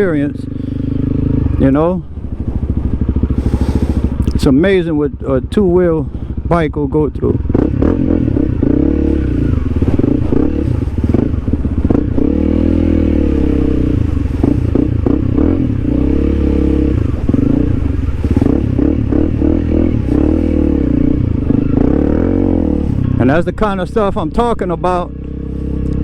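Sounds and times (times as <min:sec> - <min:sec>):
motorbike engine revving: 0:00.0 - 0:26.0.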